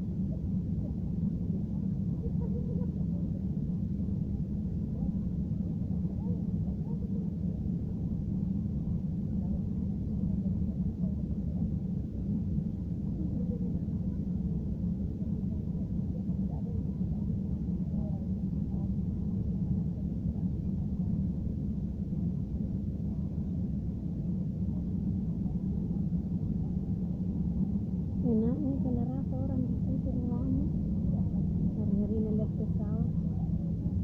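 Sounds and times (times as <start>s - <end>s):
jet cabin rumble in flight: 0.0s - 34.0s.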